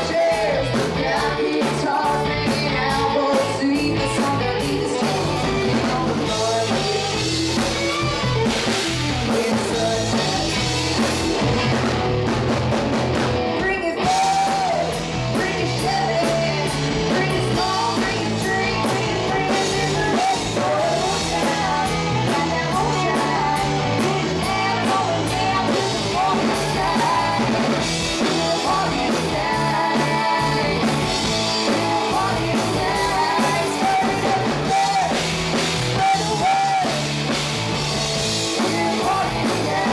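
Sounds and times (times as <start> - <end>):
women singing: 0.0 - 8.3, 9.2 - 10.7, 13.6 - 35.2, 36.0 - 37.1, 38.5 - 39.9
bass: 0.0 - 39.9
drum kit: 0.0 - 39.9
electric guitars: 0.0 - 39.9.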